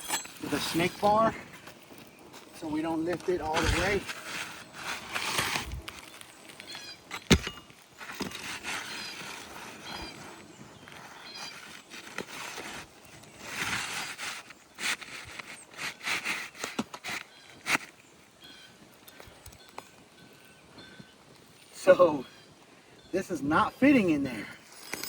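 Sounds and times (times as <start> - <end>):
shingle scraping and rustling: 0.0 - 22.5, 23.1 - 25.0.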